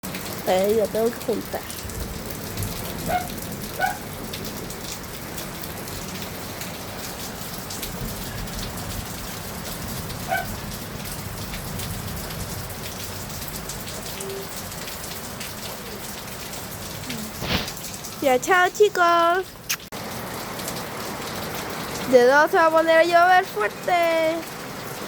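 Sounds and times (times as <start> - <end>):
heavy rain falling: 0.0 - 25.0
raindrops striking surfaces: 0.0 - 25.0.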